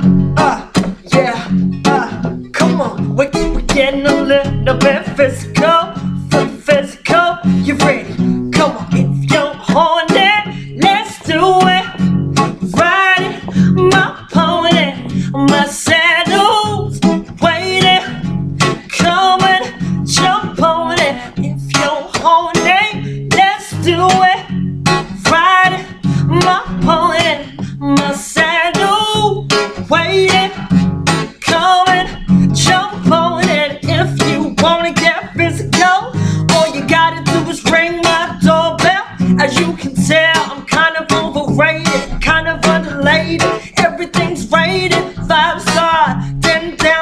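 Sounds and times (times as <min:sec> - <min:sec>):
acoustic guitar strumming: 0:00.0 - 0:47.0
woman singing into a microphone: 0:00.0 - 0:47.0.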